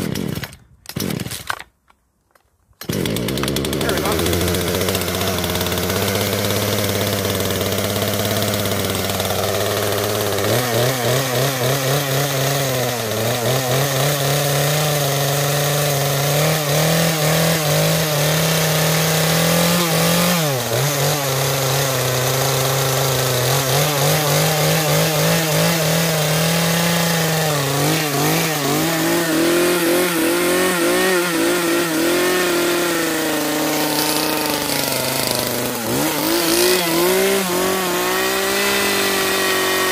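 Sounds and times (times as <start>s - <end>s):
chainsaw engine running: 0.0s - 1.5s, 2.8s - 39.9s.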